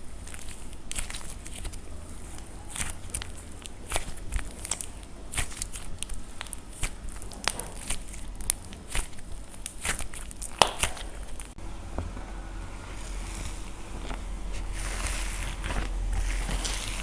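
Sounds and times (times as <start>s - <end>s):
dried clay crunching and cracking: 0.0s - 17.0s.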